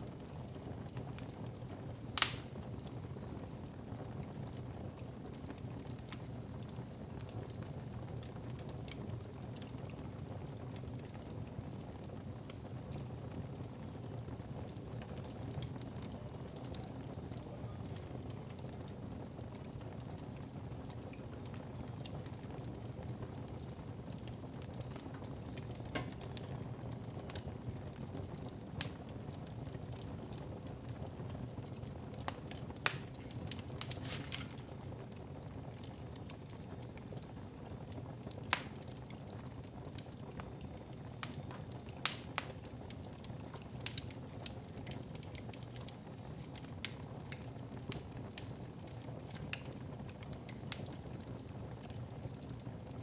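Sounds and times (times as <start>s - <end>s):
low rumble of fire flames: 0.0s - 53.0s
wood fire crackles and pops: 0.0s - 53.0s.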